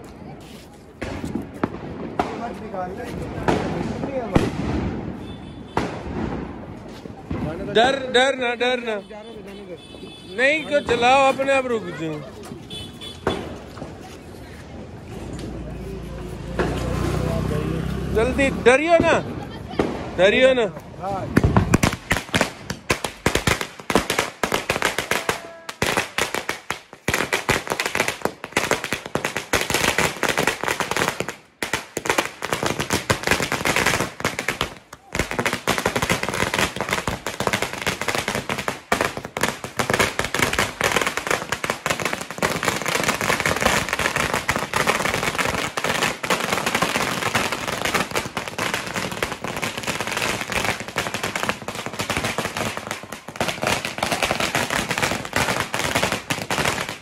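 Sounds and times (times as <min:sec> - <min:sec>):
firecrackers going off: 0:00.1 - 0:09.1, 0:09.8 - 0:57.0.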